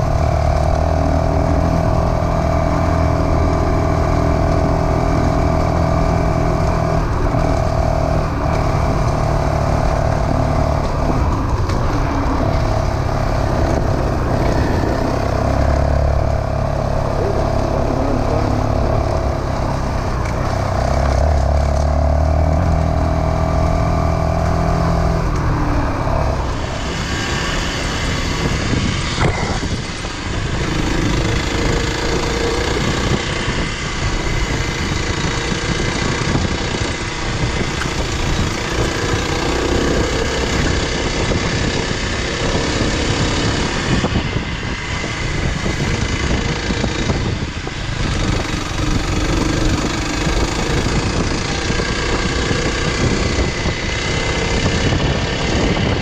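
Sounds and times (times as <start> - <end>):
loud rushing noise: 0.0 - 56.0
motorcycle engine running: 0.0 - 56.0.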